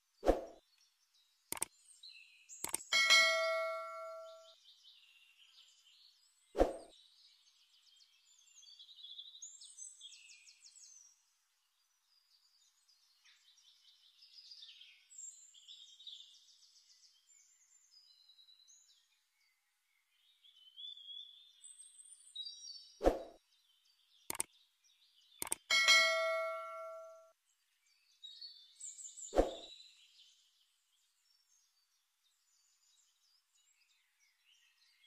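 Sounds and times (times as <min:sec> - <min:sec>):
faint songbird song: 0:00.0 - 0:35.0.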